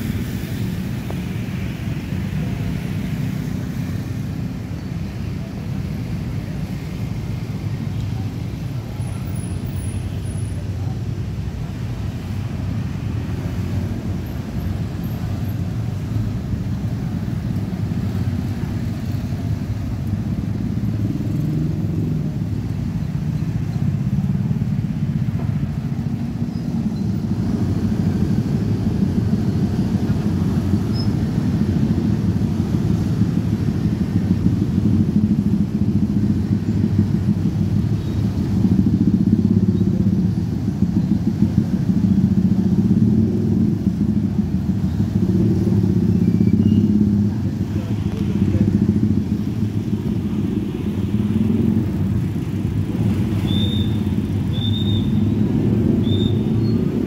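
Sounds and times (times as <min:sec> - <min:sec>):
motorcycle engines idling: 0:00.0 - 0:57.0.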